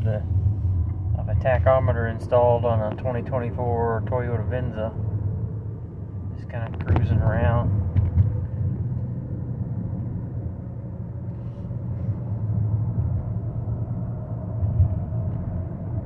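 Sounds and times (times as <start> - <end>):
car cabin road rumble: 0.0 - 16.0
faint steady whine: 0.0 - 16.0.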